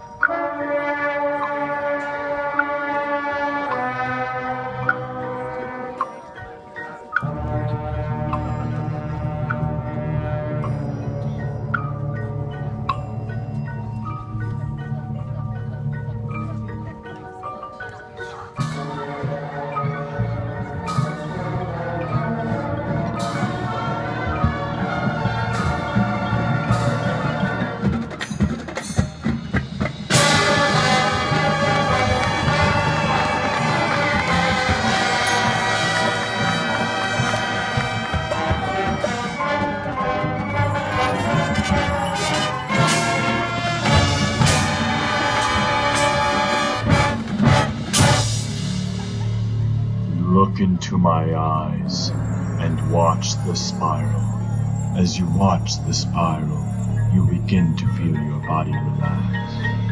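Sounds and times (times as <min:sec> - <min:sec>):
mallet percussion and chimes: 0:00.0 - 0:03.0, 0:03.6 - 0:59.9
marching band playing: 0:00.0 - 0:59.9.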